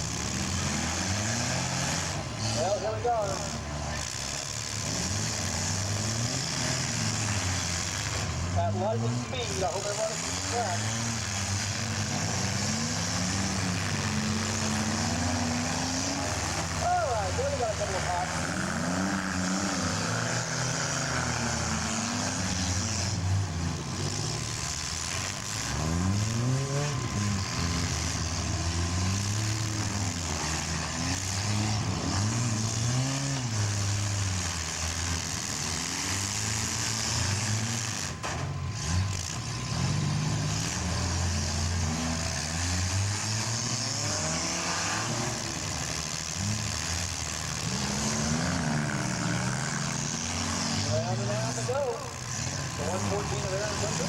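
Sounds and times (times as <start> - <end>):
car engines revving: 0.0 - 54.0
cars crashing: 0.0 - 54.0.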